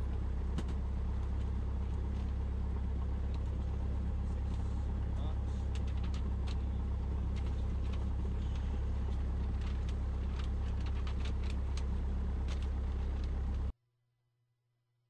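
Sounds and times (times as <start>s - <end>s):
propeller plane engine drone: 0.0s - 13.7s.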